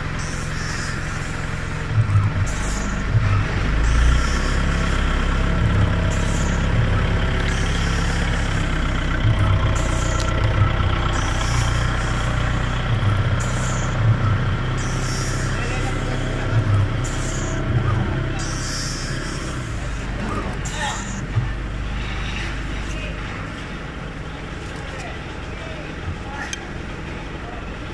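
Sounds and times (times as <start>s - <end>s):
steady motor hum: 0.0s - 27.9s.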